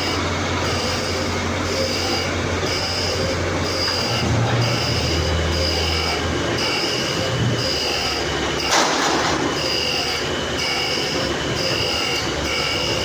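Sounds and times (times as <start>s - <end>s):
pulsing high tone: 0.0s - 8.8s, 9.5s - 13.0s
machine low hum: 0.0s - 13.0s.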